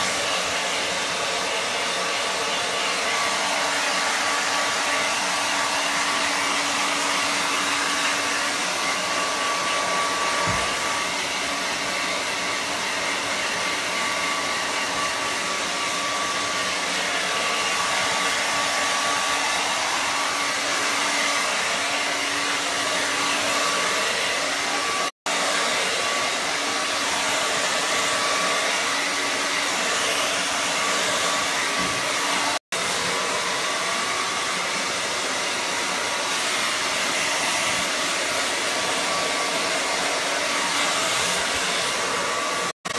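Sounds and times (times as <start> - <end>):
hair dryer blowing: 0.0 - 42.9.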